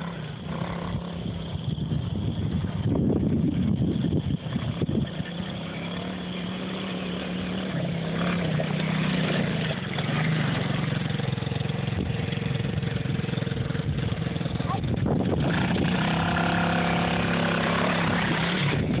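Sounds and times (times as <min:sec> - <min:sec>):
quad engine running: 0:00.0 - 0:19.0.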